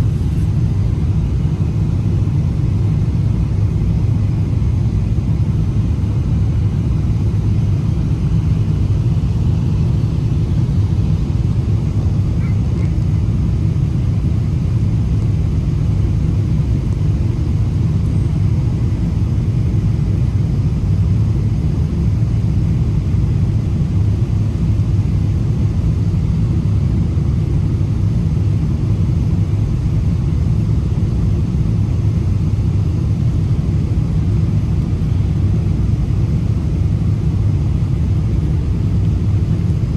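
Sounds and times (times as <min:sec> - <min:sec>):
airplane engine rumble: 0:00.0 - 0:39.9.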